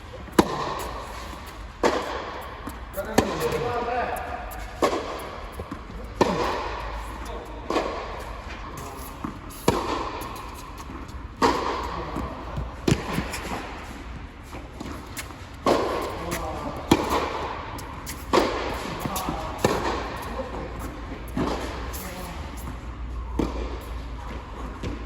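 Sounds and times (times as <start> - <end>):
tennis ball hit by racquets: 0.3 - 25.0.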